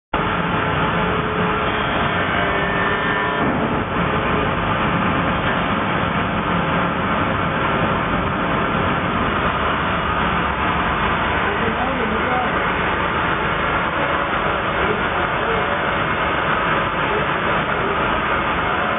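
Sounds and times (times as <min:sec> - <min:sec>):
steady multi-tone whine: 0:00.2 - 0:18.9
timber milling machinery running: 0:00.2 - 0:18.9.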